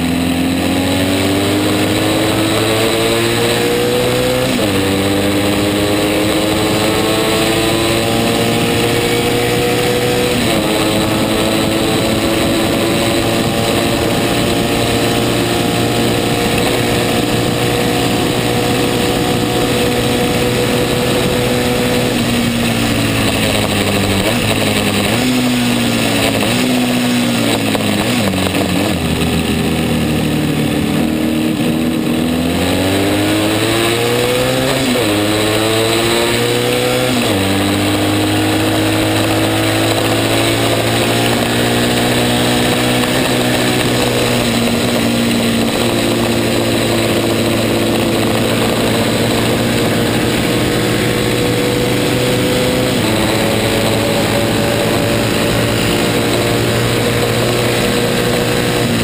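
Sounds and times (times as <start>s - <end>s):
racing motorcycle engine: 0.0s - 59.0s
wind rush: 6.5s - 59.0s.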